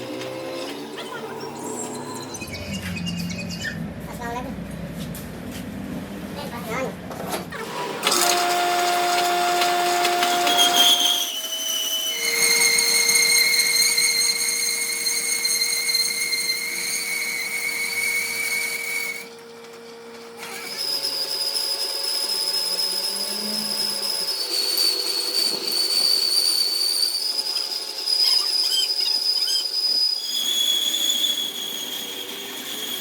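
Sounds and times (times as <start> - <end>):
high-pitched metal machining squeal: 0.0 - 3.9, 7.6 - 19.3, 20.4 - 33.0.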